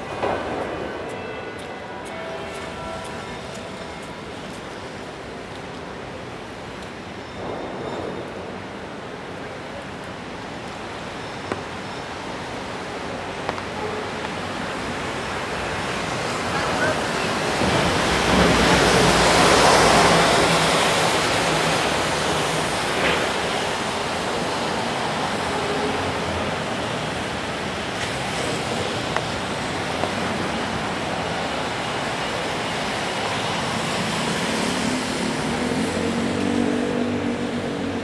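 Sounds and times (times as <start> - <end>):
traffic hiss on wet pavement: 0.0 - 38.0.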